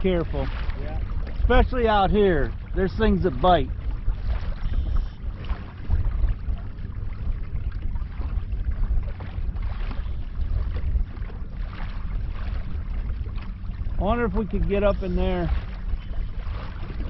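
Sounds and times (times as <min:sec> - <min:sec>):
water splashing against kayak: 0:00.0 - 0:17.0
wind buffeting microphone: 0:00.0 - 0:17.0.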